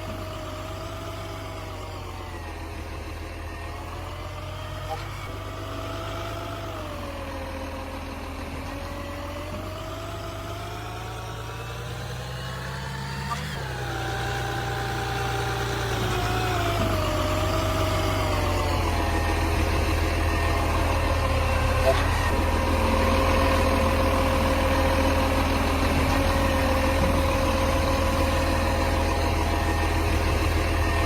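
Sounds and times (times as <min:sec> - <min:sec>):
garbage truck engine whining: 0:00.0 - 0:31.0.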